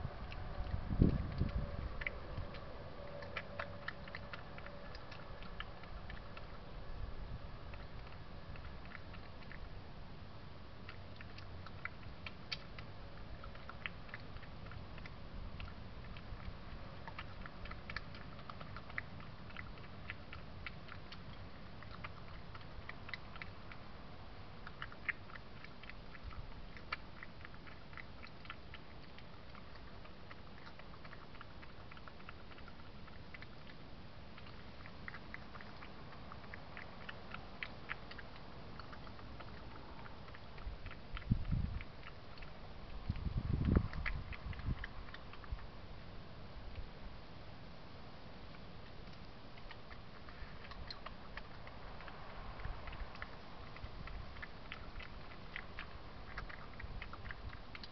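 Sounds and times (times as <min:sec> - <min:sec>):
badger chewing food: 0:00.0 - 0:57.9
steady low hum: 0:00.0 - 0:57.9.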